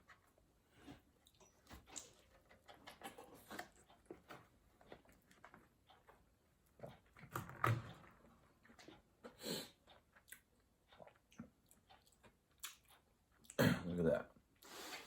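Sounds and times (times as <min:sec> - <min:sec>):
person chewing food: 0:00.0 - 0:13.6.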